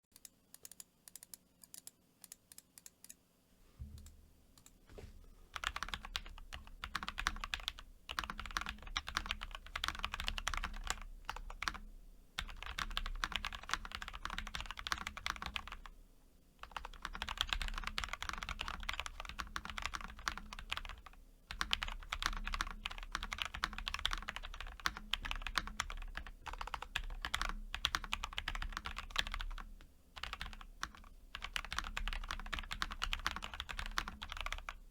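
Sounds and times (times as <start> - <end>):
typing on mechanical keyboard: 5.6 - 11.8, 12.4 - 15.9, 16.6 - 34.8.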